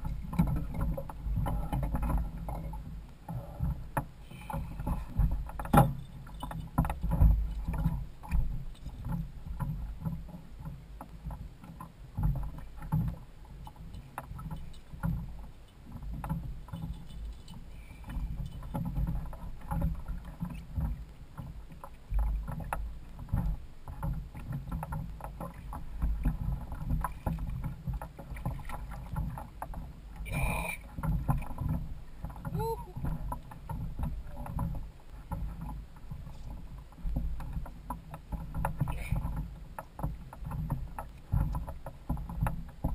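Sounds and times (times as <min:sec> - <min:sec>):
small knocks and clicks: 0:00.0 - 0:42.9
water sloshing against a hull: 0:00.0 - 0:42.9.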